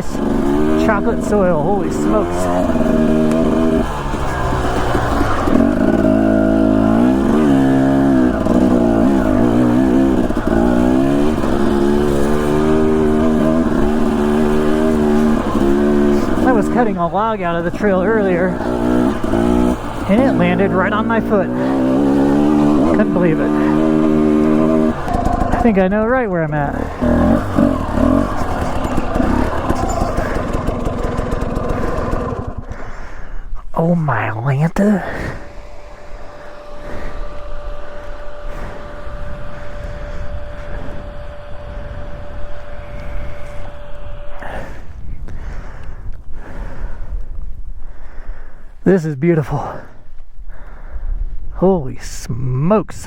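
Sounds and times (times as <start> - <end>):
dirt bike engine revving: 0.0 - 47.1.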